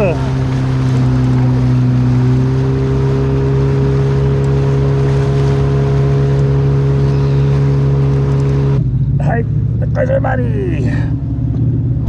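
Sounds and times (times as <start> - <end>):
outboard motor humming: 0.0 - 12.0
water rushing: 0.0 - 12.0.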